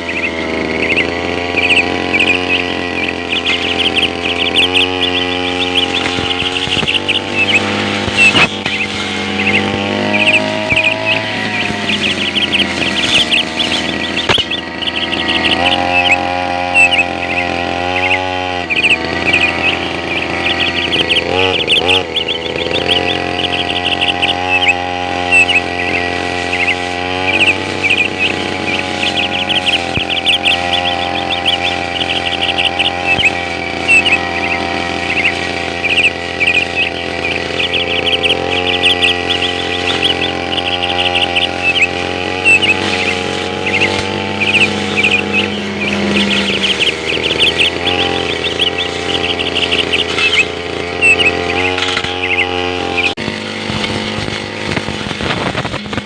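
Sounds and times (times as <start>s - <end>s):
brush cutter engine running: 0.0s - 56.0s
chirping: 0.0s - 56.0s.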